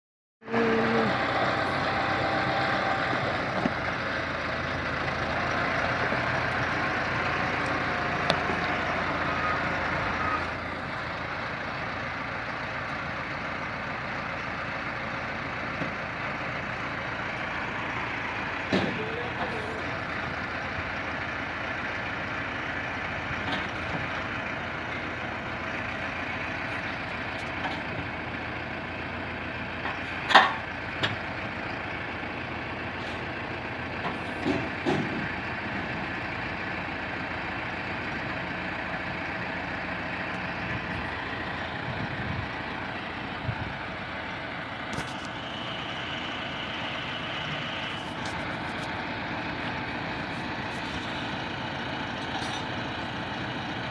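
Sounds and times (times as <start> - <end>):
diesel tractor engine running: 0.4 - 53.9.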